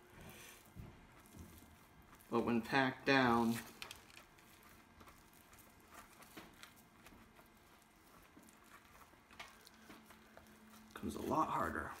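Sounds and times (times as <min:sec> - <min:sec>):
gloved hands packing damp cement: 0:00.0 - 0:12.0.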